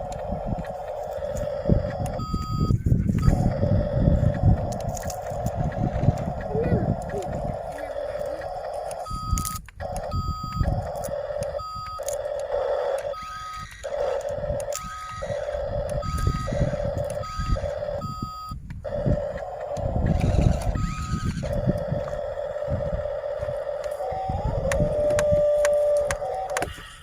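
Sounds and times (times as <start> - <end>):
engine running: 0.0 - 27.0
reversing alarm beeping: 0.0 - 27.0.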